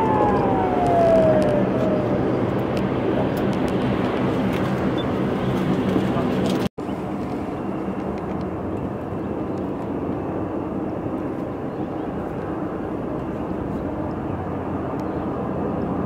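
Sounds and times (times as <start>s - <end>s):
distant jet engine rumble: 0.0s - 16.0s.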